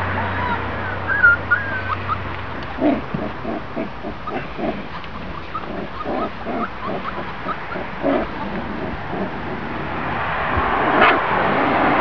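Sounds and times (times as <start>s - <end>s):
puppies grunting and squeaking: 0.4s - 10.0s.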